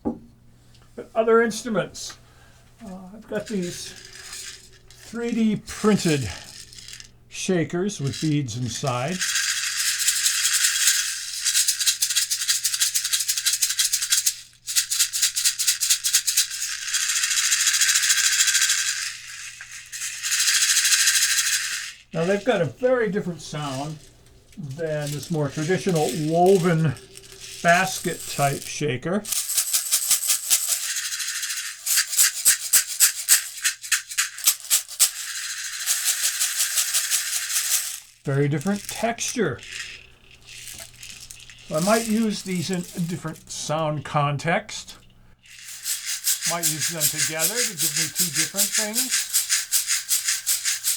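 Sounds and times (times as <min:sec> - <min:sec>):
bead shakers rattling: 0:03.4 - 0:07.2, 0:08.0 - 0:43.6, 0:45.0 - 0:50.9.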